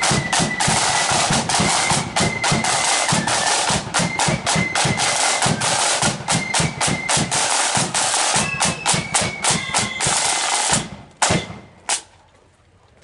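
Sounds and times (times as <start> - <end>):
flute melody: 0.0 - 11.9
rattling side drums: 0.0 - 12.0.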